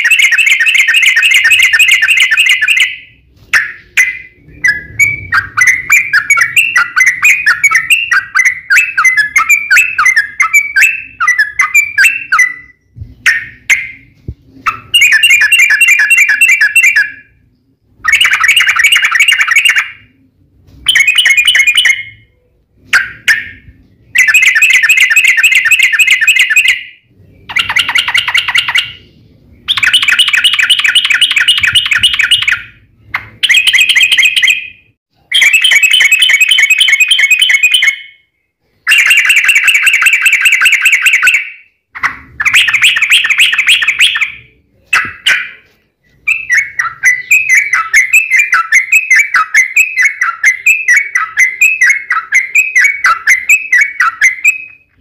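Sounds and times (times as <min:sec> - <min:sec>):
bird singing rapid chattering notes: 0:00.0 - 0:20.1, 0:20.8 - 0:22.3, 0:22.9 - 0:38.2, 0:38.8 - 0:55.0.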